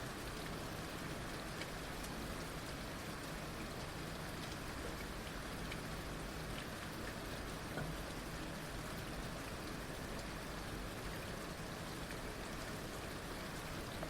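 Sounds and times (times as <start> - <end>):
raindrops ticking on surfaces: 0.0 - 14.0.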